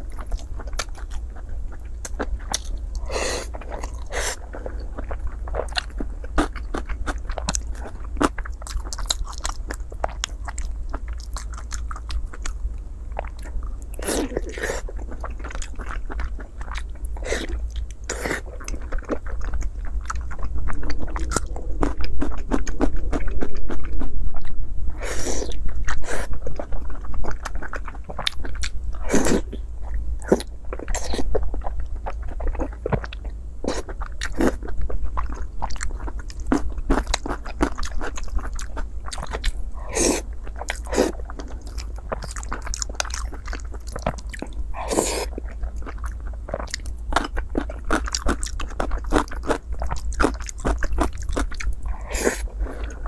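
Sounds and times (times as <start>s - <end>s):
close chewing and biting: 0.0s - 53.0s
steady low hum: 0.0s - 53.0s.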